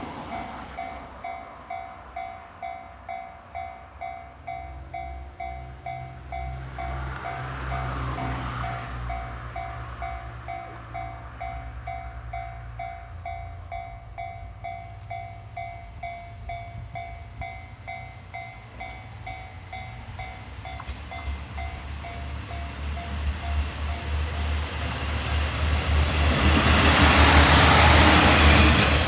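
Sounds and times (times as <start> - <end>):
level-crossing warning bell: 0.0 - 29.0.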